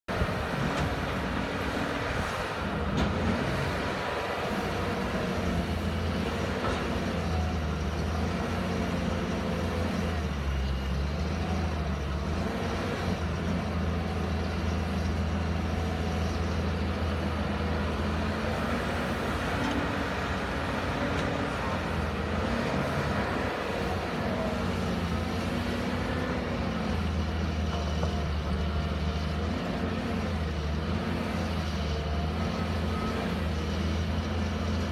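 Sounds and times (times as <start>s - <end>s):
excavator diesel engine under load: 0.1s - 34.9s.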